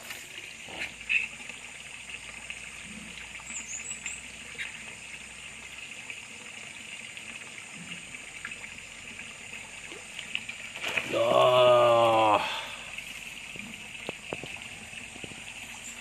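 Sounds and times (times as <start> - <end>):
trickle of running water: 0.0 - 16.0.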